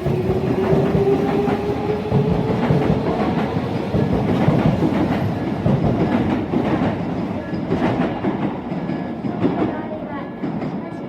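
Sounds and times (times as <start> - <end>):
electric train passing: 0.0 - 11.0.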